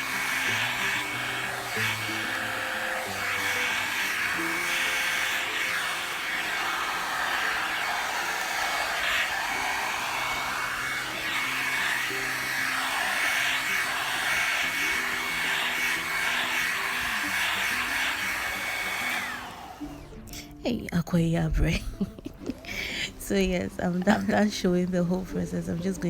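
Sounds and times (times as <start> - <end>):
hot-air blow-dryer brush running: 0.0 - 20.3, 21.9 - 26.0
background music: 0.0 - 26.0.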